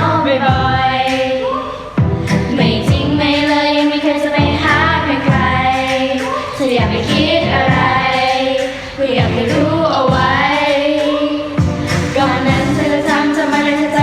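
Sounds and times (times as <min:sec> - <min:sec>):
choir singing pop song: 0:00.0 - 0:14.0.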